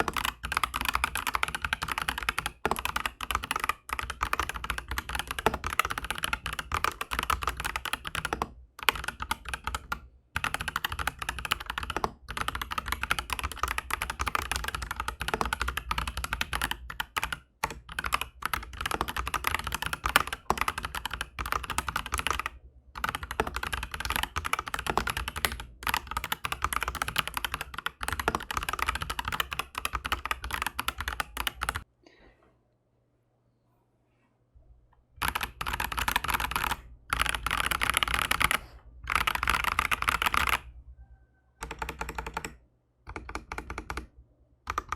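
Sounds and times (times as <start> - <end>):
fast typing on mechanical keyboard: 0.0 - 31.9, 35.2 - 40.7, 41.6 - 44.1, 44.7 - 44.9.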